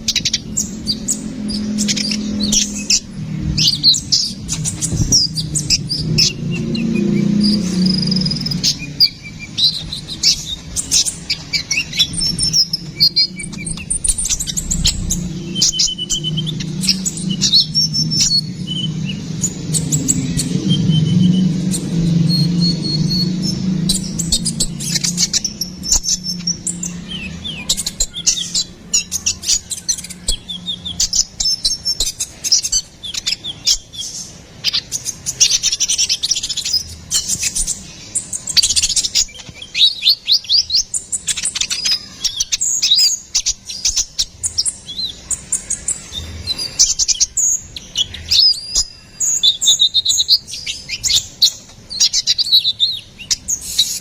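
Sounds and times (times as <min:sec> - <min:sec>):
small bird singing: 0:00.0 - 0:54.0.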